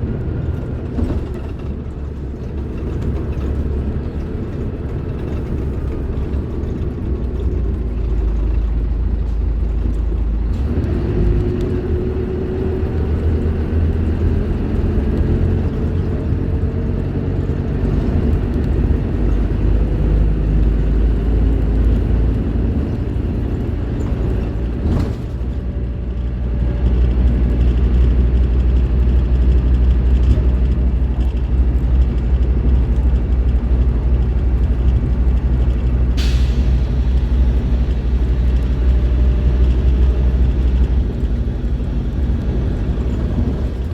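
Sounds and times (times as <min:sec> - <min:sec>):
bus diesel engine under load: 0:00.0 - 0:43.9.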